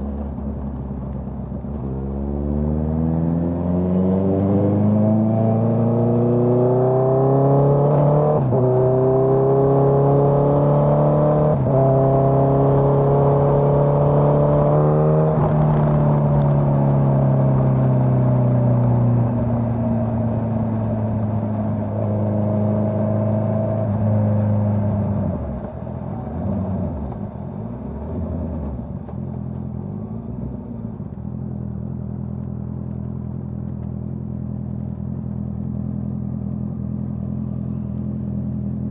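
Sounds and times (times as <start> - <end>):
motorcycle engine accelerating: 1.6 - 38.9.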